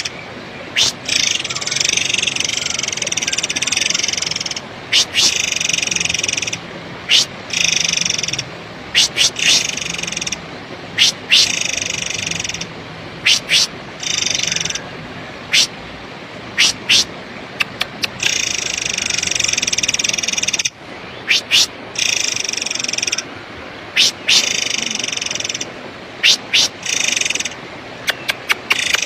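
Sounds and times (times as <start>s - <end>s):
bird trilling calls: 0.0s - 10.4s, 11.0s - 14.9s, 15.5s - 15.7s, 16.5s - 23.3s, 23.9s - 29.0s.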